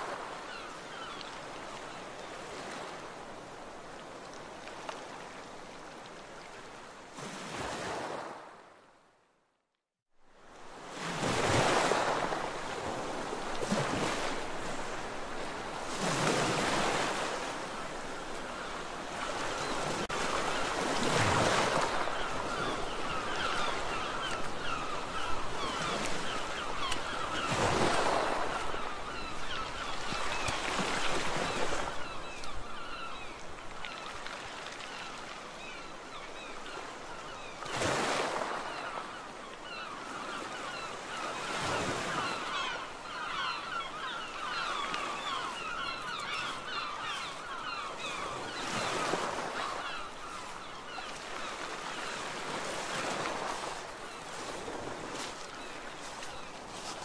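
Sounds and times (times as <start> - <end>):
sea waves breaking on beach: 0.0 - 8.9, 10.3 - 57.0.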